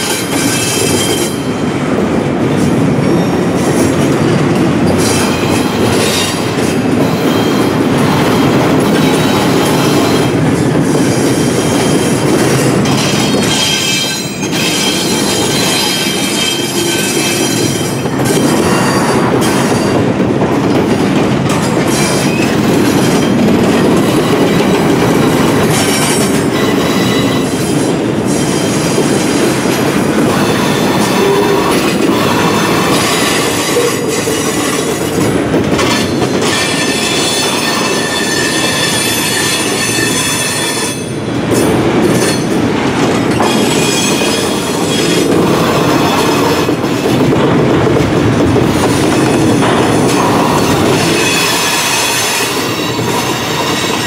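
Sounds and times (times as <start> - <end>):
rumble of train wheels on rail: 0.0 - 54.0
wheels clacking over rail joints: 0.0 - 54.0.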